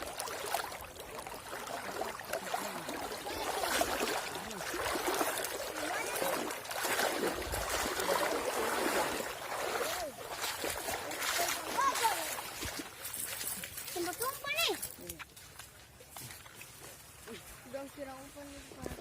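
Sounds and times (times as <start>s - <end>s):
wading through shallow water: 0.0s - 19.0s.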